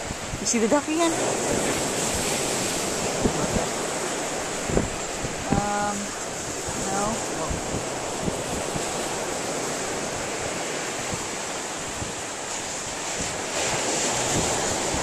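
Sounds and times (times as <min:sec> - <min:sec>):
ocean surf rushing: 0:00.0 - 0:15.0
wind buffeting microphone: 0:00.0 - 0:15.0.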